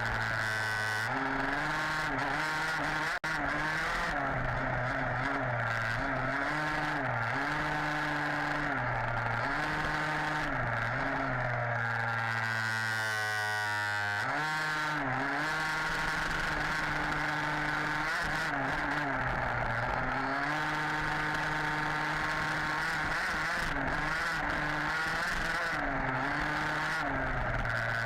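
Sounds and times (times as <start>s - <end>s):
rc buggy two-stroke engine revving: 0.0s - 28.0s.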